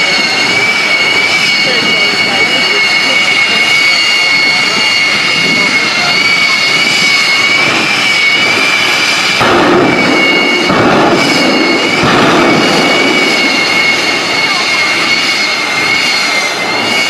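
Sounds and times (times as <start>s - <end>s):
jet engine turbine whine: 0.0s - 17.0s
jet exhaust rushing: 0.0s - 17.0s.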